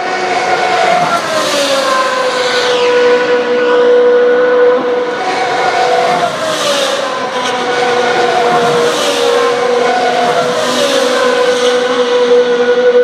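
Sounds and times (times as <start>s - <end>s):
racing car engines high-pitched whine: 0.0s - 13.0s
racing car passing by: 0.0s - 13.0s.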